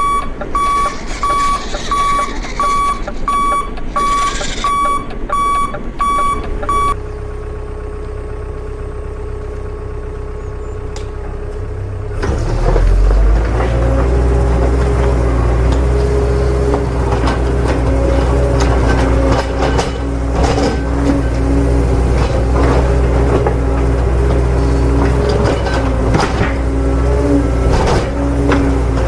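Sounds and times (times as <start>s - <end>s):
truck reversing beeper: 0.0s - 11.9s, 13.0s - 29.0s
truck diesel engine hum: 0.0s - 29.0s.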